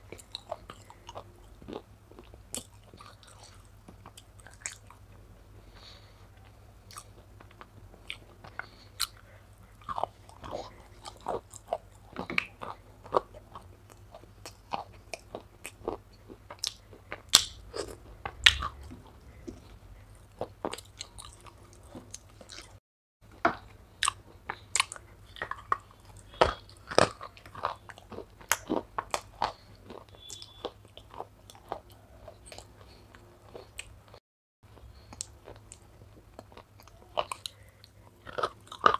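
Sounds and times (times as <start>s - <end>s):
chewing wet clay crunches: 5.8s - 22.8s, 23.6s - 38.9s.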